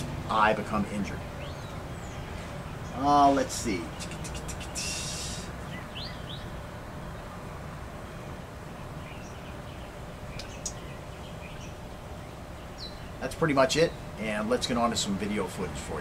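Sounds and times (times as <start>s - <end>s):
steady low rumble: 0.0s - 16.0s
rising bird chirps: 1.2s - 14.2s.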